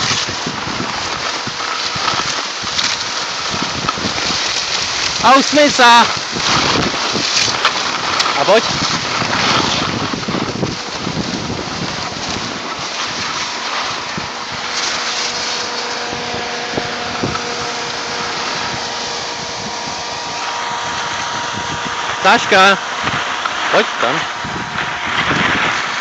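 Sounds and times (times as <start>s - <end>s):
skis sliding over snow: 0.0s - 26.0s
wind buffeting microphone: 0.0s - 26.0s.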